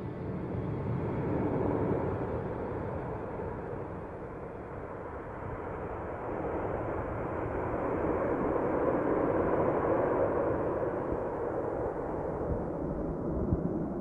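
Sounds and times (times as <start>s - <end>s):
low ambient drone: 0.0s - 14.0s.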